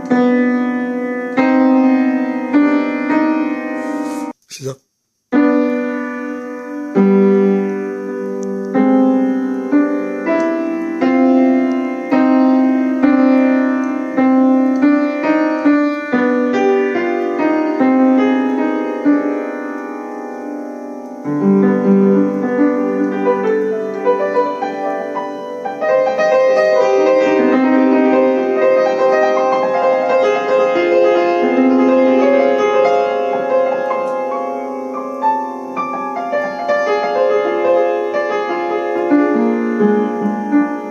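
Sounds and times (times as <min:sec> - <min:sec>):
piano playing: 0:00.0 - 0:04.4, 0:05.3 - 0:40.9.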